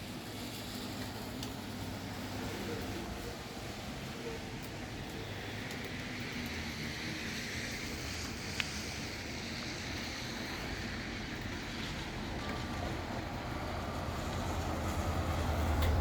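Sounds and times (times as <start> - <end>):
rain hiss: 0.0 - 16.0
storm wind: 0.0 - 16.0.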